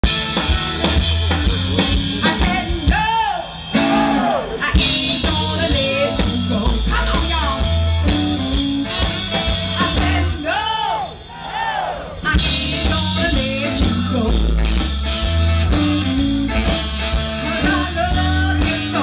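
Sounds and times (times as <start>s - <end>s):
drum kit: 0.0s - 10.4s, 12.3s - 19.0s
bass guitar: 0.0s - 10.8s, 12.2s - 19.0s.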